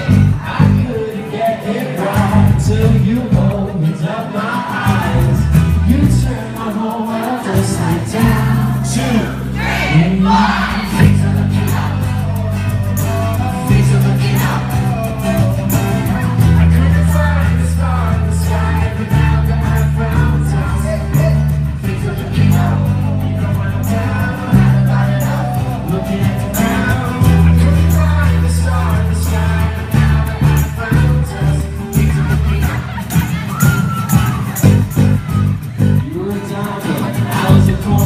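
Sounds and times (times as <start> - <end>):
electric bass low notes: 0.0 - 1.1, 2.1 - 3.9, 4.9 - 6.8, 7.4 - 33.5, 34.5 - 36.4
acoustic guitar: 0.0 - 38.0
person singing: 0.0 - 38.0.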